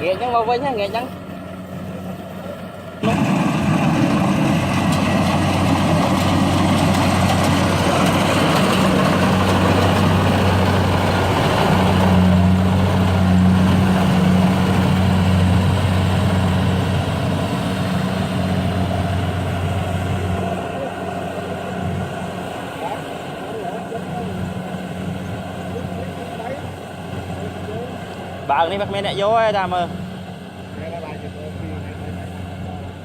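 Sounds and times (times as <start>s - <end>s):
farm machine engine running: 0.0s - 33.0s.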